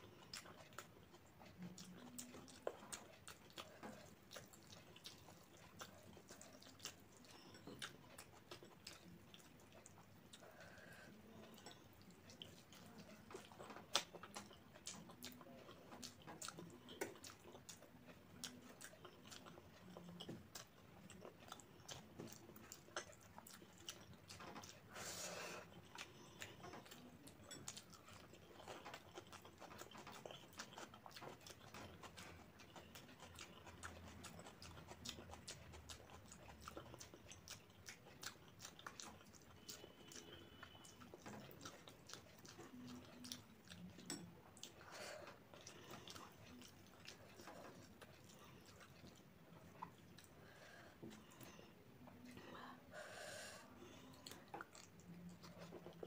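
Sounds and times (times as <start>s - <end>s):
close chewing with wet mouth clicks: 0.0s - 52.8s, 53.6s - 56.0s.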